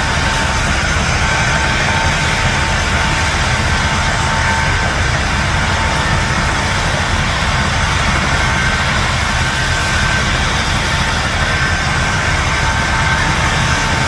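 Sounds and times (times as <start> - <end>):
helicopter turbine whine: 0.0 - 14.0.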